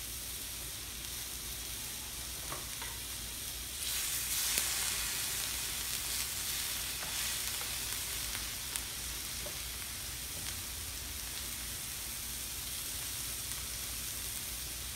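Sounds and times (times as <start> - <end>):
meat and peppers sizzling on grill: 0.0 - 14.9.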